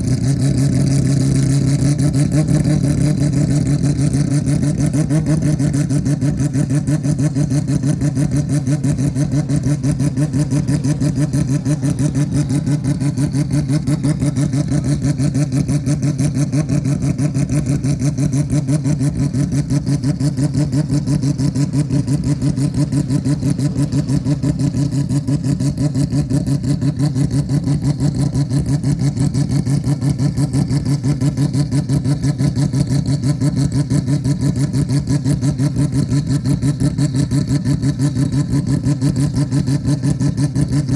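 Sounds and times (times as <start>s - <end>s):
rotary engine idling: 0.0s - 40.9s.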